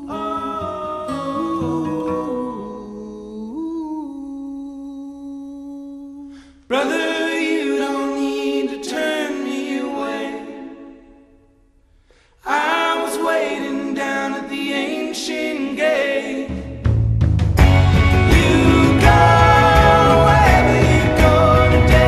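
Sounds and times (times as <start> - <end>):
unaccompanied voices singing: 0.0 - 4.6, 6.7 - 11.3, 12.4 - 16.9, 17.6 - 22.0.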